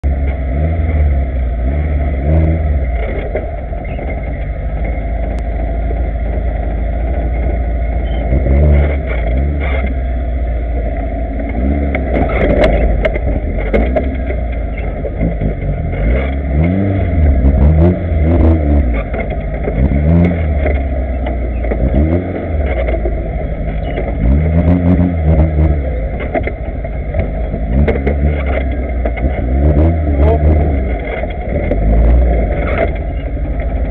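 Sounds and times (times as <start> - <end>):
off-road vehicle engine revving: 0.0 - 33.9.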